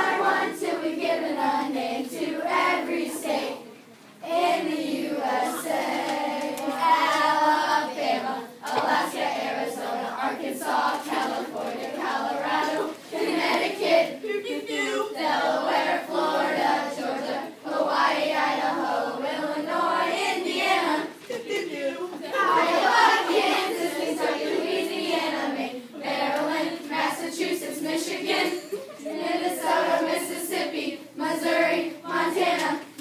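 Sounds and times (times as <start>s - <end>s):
children chanting a rap: 0.0s - 3.6s, 4.2s - 33.0s.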